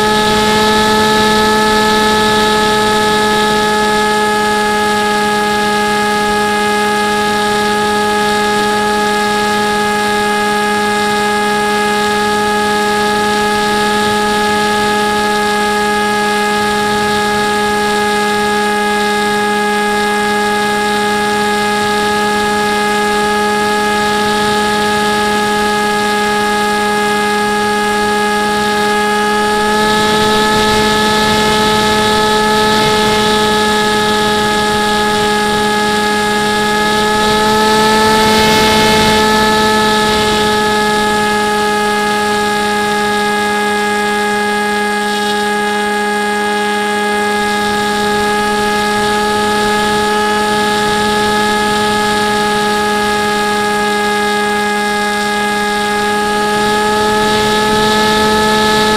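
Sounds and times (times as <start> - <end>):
model aircraft motor whine: 0.0 - 58.9.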